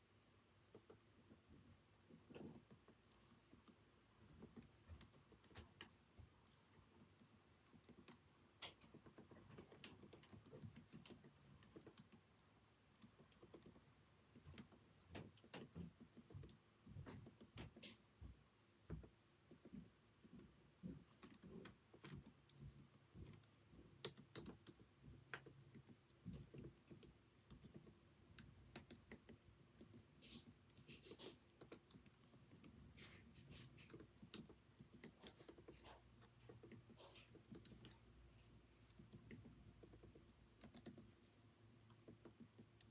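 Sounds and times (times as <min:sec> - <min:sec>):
faint keyboard typing: 0:00.7 - 0:42.9.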